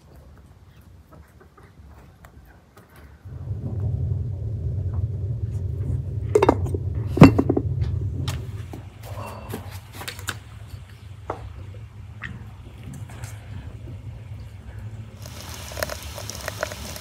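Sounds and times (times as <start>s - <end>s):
low rumble: 3.2s - 17.0s.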